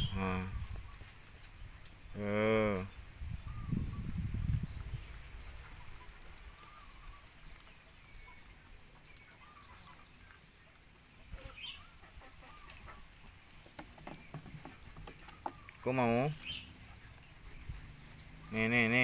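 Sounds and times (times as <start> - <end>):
chirping and clucking animal calls: 0.0 - 19.0.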